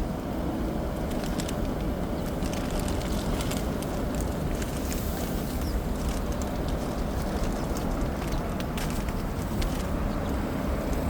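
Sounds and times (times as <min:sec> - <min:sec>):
low city rumble: 0:00.0 - 0:11.0
sharp clicks and wing flutters: 0:01.1 - 0:11.0.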